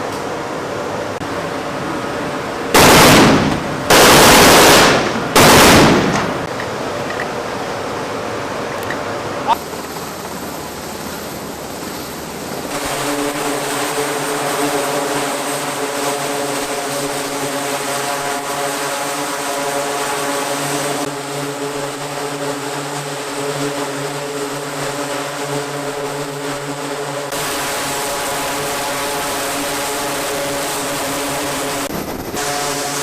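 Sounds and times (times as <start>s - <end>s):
aircraft engine drone: 0.0s - 33.0s.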